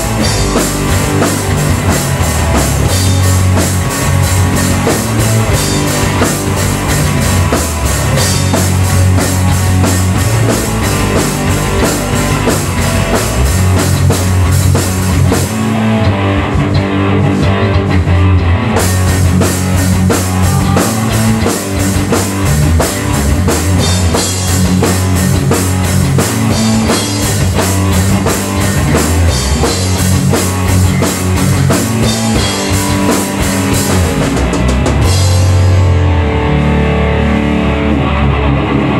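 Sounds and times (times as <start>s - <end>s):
drum kit hits: 0.0s - 15.8s, 18.7s - 36.4s
heavy electric guitar riffs: 0.0s - 38.9s
live heavy rock: 0.0s - 38.9s.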